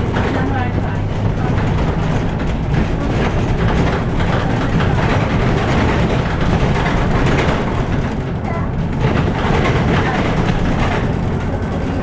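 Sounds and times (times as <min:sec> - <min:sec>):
bus engine drone: 0:00.0 - 0:12.0
road and cabin noise: 0:00.0 - 0:12.0.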